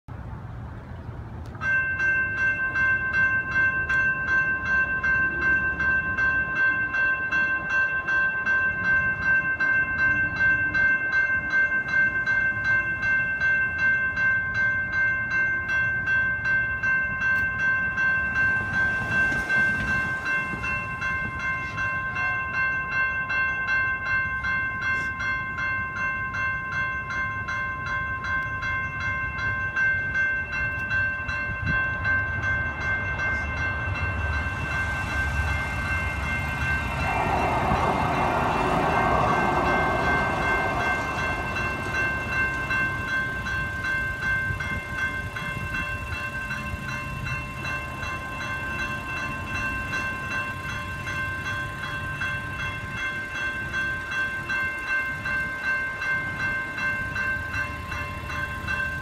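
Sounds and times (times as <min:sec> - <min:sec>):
low traffic rumble: 0:00.1 - 0:59.0
railroad crossing bell ringing: 0:00.1 - 0:59.0.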